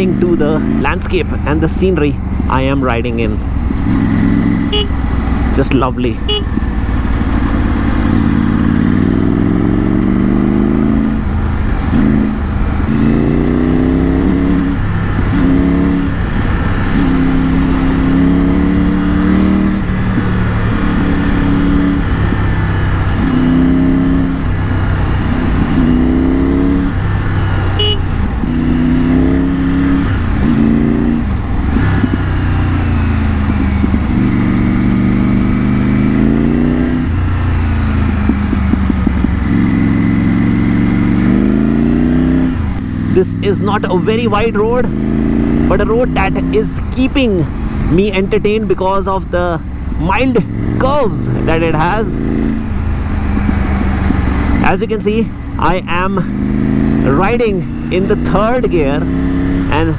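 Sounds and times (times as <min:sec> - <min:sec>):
motorcycle engine revving while riding: 0:00.0 - 0:59.9.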